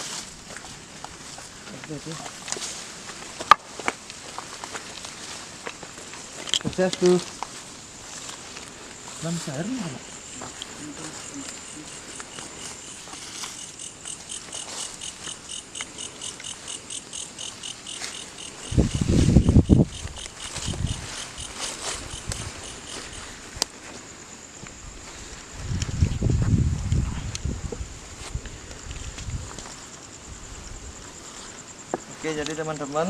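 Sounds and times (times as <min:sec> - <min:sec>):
rustling: 0:00.0 - 0:27.3
footsteps: 0:00.0 - 0:30.1
crickets chirping: 0:00.0 - 0:33.0.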